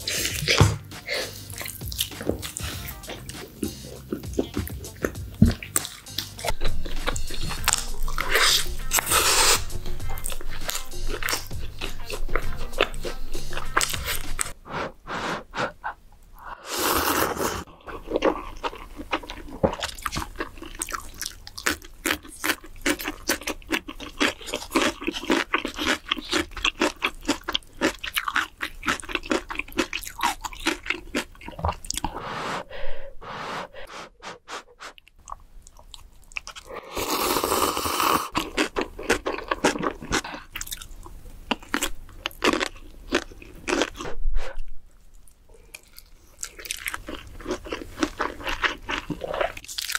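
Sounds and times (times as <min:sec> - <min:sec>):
wet chewing: 0:00.0 - 0:14.6, 0:17.0 - 0:32.2, 0:35.0 - 0:49.9.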